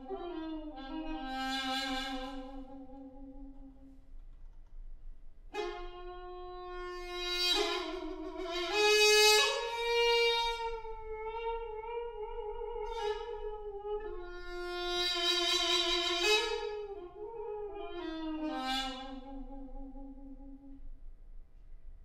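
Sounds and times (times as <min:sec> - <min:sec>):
double-reed pipe playing held notes: 0:00.0 - 0:04.0, 0:05.5 - 0:20.8.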